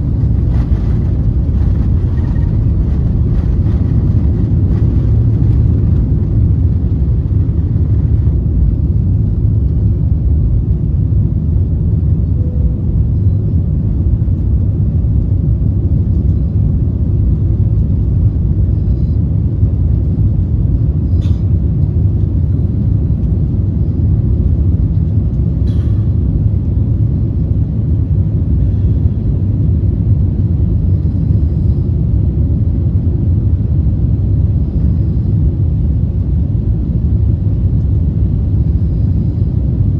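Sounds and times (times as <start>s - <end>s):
airliner engine rumble in cabin: 0.0s - 39.9s.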